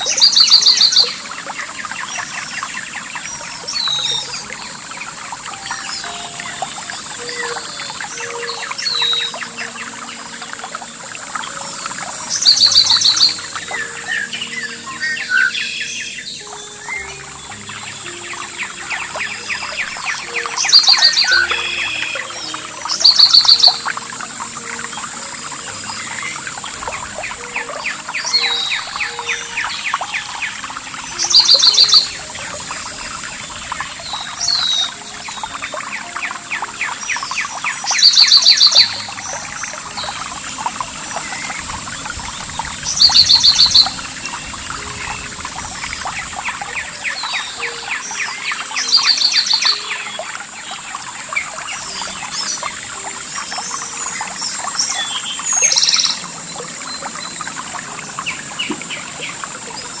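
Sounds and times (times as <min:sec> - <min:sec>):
birds chirping softly: 0:00.0 - 1:00.0
trickling stream: 0:00.0 - 1:00.0.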